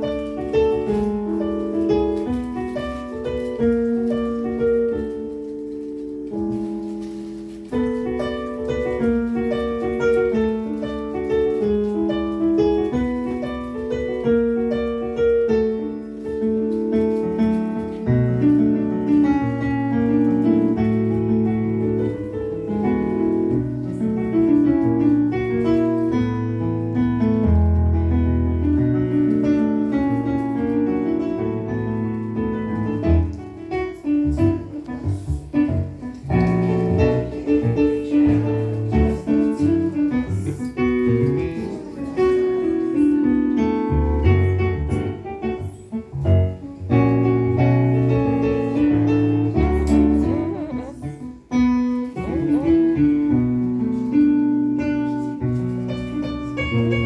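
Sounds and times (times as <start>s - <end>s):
electronic keyboard piano chords: 0.0s - 57.0s.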